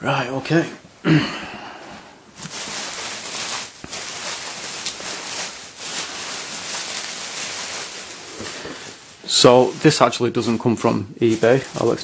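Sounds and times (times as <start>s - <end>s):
bubble wrap crinkling: 2.3s - 12.0s.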